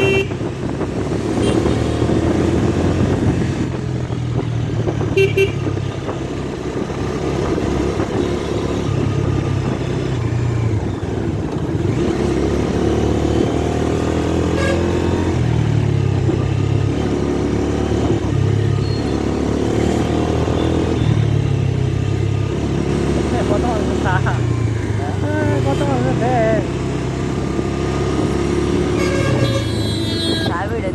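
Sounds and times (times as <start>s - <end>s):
motorcycle engine revving: 0.0s - 30.9s
wind and road noise: 0.0s - 30.9s.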